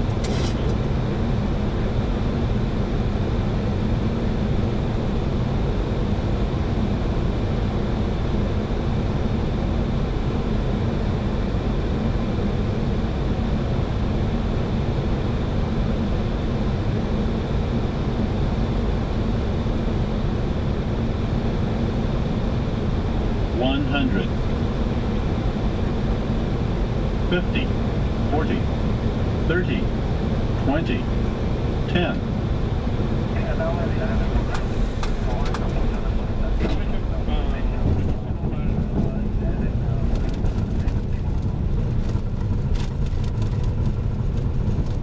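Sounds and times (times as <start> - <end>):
aircraft cockpit air and engine noise: 0.0 - 45.0.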